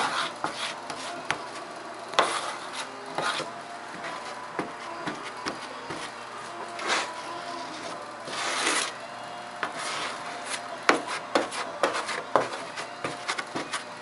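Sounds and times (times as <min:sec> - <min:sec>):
spreader scraping body filler on metal: 0:00.0 - 0:14.0.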